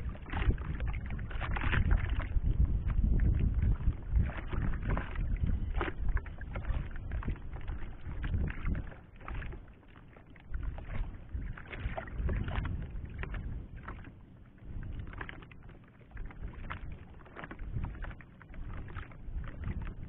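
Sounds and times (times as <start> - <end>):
short knocks and splashes: 0.0 - 14.2, 14.8 - 20.0
low uneven rumble: 0.0 - 20.0
water lapping against boat hull: 0.0 - 20.0.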